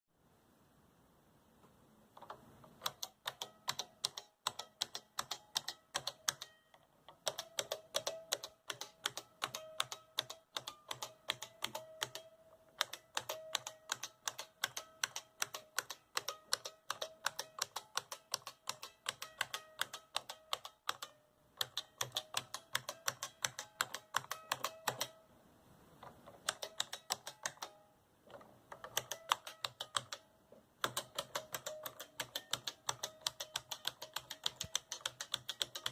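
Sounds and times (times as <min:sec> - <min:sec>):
keyboard keys clicking: 0:02.2 - 0:25.2, 0:26.0 - 0:27.8, 0:28.7 - 0:30.2, 0:30.8 - 0:35.9.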